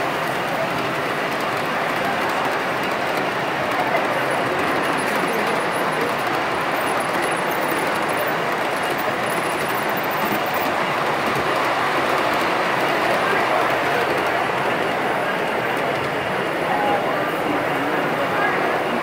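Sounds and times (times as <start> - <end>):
model train wheels rumbling: 0.0 - 19.0.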